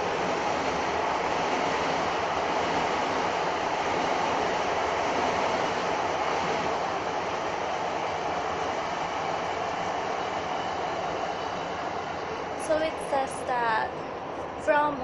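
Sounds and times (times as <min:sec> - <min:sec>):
train wheels rumbling inside carriage: 0:00.0 - 0:15.0.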